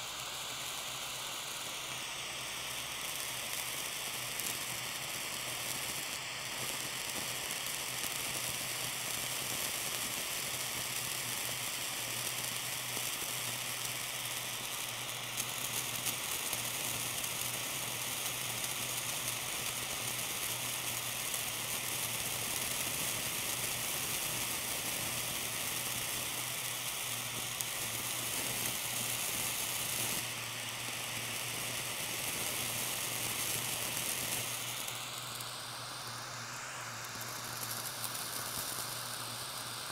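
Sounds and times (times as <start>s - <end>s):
blowtorch flame hissing: 0.0s - 39.9s
cheese sizzling and popping: 0.0s - 39.9s.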